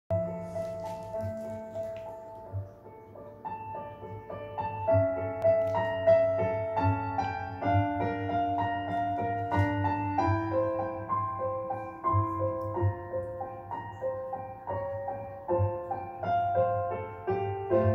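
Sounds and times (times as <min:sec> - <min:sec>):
slow solo piano melody: 0:00.1 - 0:17.9.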